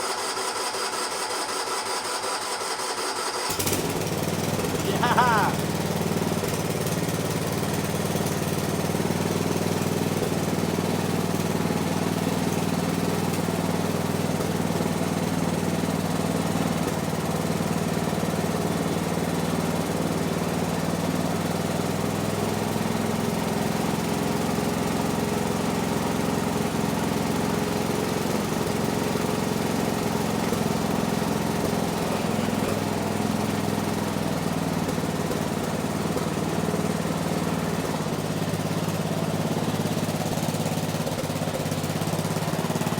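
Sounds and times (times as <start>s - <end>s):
garden tractor engine running: 2.6s - 42.9s.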